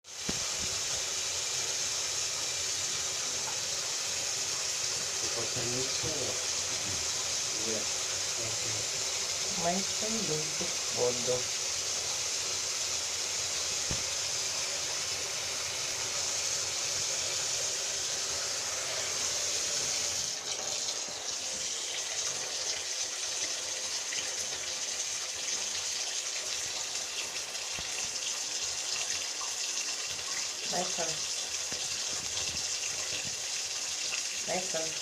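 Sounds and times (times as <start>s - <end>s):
tap water running into sink: 0.0s - 35.0s.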